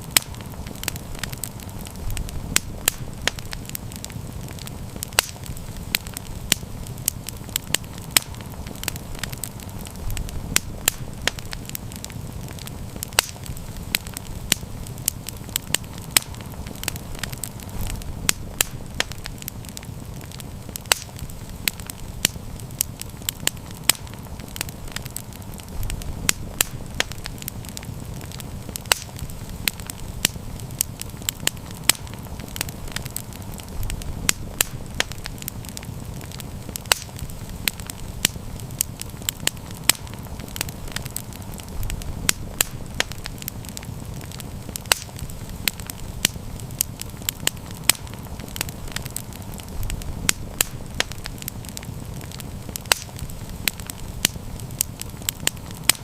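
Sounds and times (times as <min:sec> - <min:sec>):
campfire crackling and popping: 0:00.0 - 0:56.0
low rushing of flame: 0:00.0 - 0:56.0.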